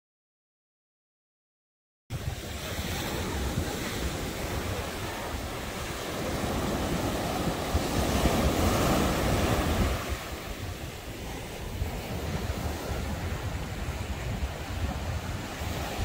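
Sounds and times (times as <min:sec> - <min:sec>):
ocean surf breaking: 0:02.1 - 0:16.0
wind buffeting microphone: 0:02.1 - 0:16.0.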